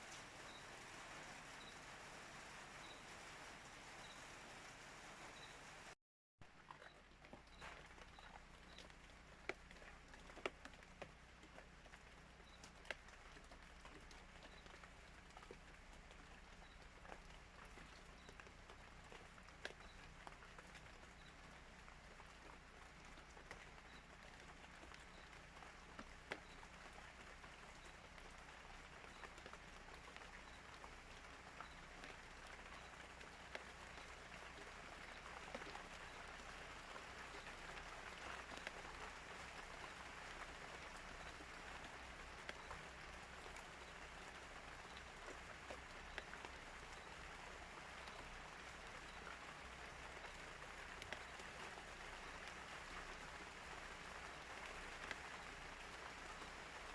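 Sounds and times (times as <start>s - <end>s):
sharp water drips: 0.0s - 56.9s
steady light rain: 0.0s - 56.9s.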